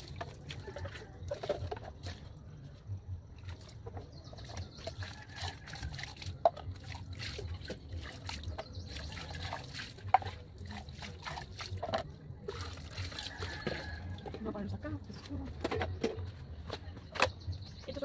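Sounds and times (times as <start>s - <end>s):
water trickling and sloshing: 0.0s - 16.5s.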